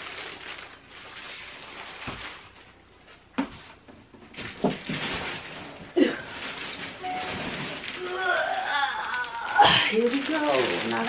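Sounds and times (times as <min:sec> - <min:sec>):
packaging rustling: 0:00.0 - 0:03.0, 0:04.3 - 0:11.0.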